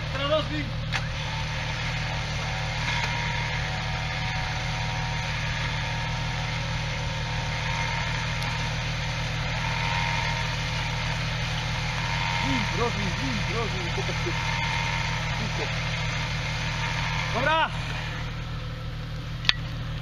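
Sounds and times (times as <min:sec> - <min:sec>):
electric winch motor whine: 0:00.0 - 0:20.0
engine idling: 0:00.0 - 0:20.0.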